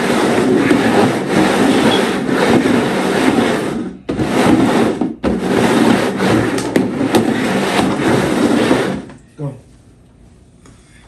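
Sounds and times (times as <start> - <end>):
food packages scraping on surface: 0.0 - 9.1.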